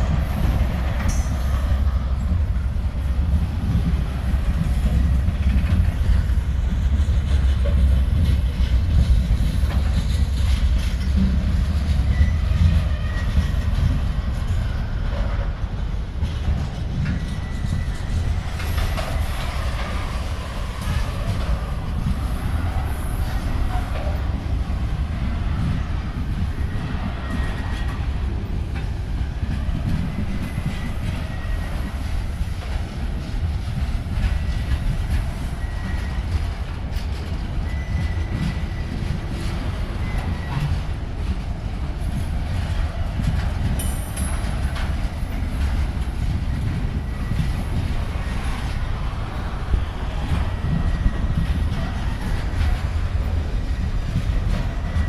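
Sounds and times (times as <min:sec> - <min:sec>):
train rumbling past: 0:00.0 - 0:55.0
wheels rattling over rails: 0:00.0 - 0:55.0.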